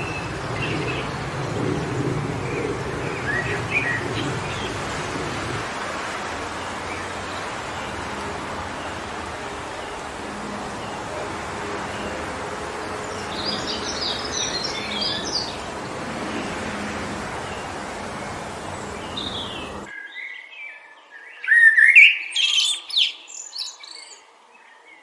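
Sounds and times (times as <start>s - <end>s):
wind through trees: 0.0s - 25.0s.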